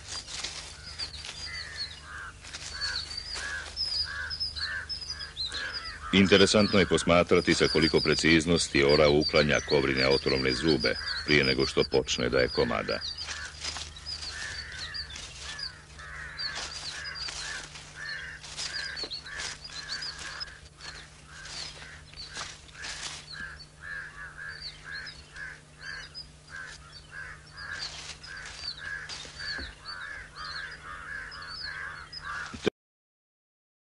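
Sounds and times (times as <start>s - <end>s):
birds chattering: 0.0s - 32.7s
high bird chirps: 0.0s - 32.7s
rustling in dry vegetation: 0.0s - 32.7s.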